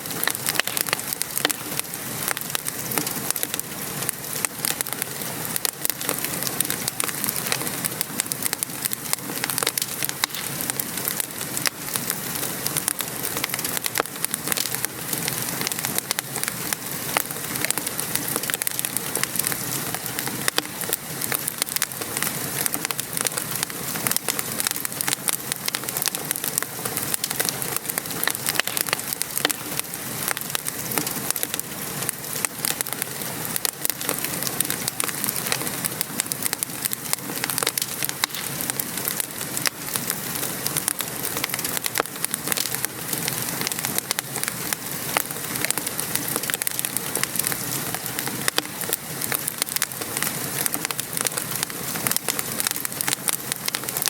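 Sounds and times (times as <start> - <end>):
rain pattering: 0.0 - 54.0
wood fire crackling: 0.0 - 54.0.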